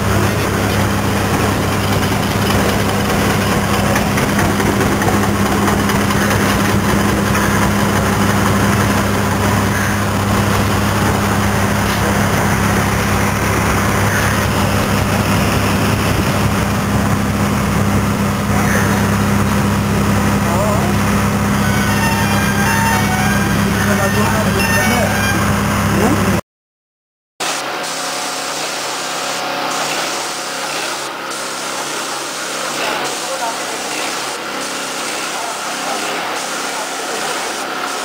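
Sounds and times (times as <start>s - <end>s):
paint sprayer pump running: 0.0s - 26.2s, 27.8s - 38.0s.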